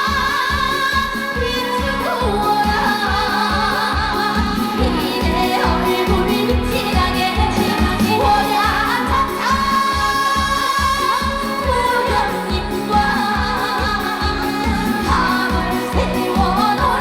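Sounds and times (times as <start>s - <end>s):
amplified band track: 0.0s - 17.0s
steady kick drum beat: 0.0s - 17.0s
woman singing: 0.0s - 17.0s.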